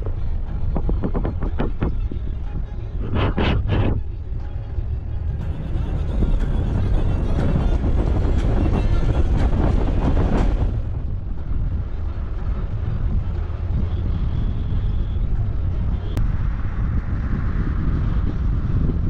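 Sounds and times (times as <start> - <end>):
road and engine rumble: 0.0 - 19.0.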